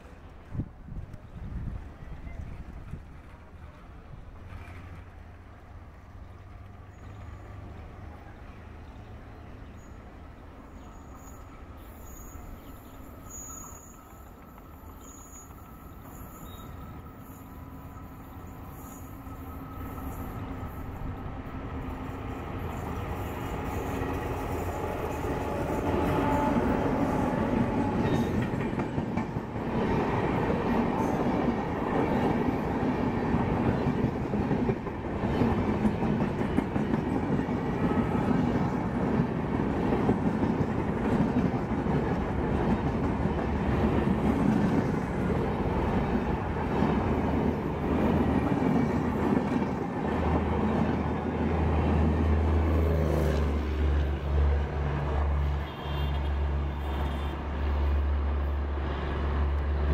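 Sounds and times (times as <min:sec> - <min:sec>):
electric locomotive passing: 0:00.0 - 0:59.9
train wheels on rails: 0:00.0 - 0:59.9.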